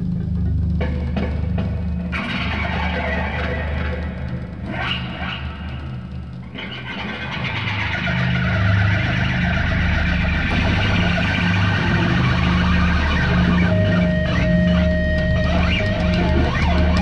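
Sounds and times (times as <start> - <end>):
bass line: 0.0 - 17.0
held high lead guitar note: 0.0 - 17.0
rock guitar: 0.0 - 17.0.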